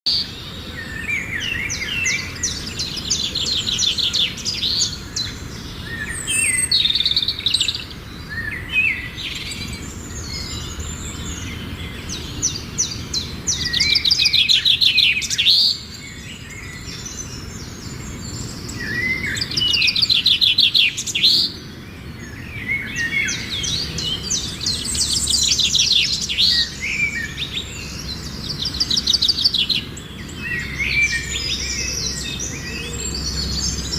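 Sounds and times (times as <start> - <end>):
birds singing and chirping: 0.0 - 33.9.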